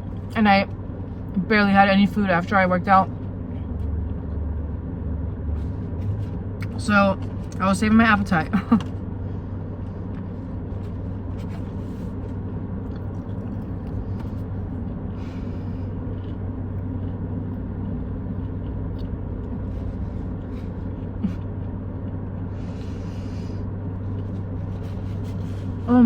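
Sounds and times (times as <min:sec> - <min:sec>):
car idling heard from inside: 0:00.0 - 0:26.0.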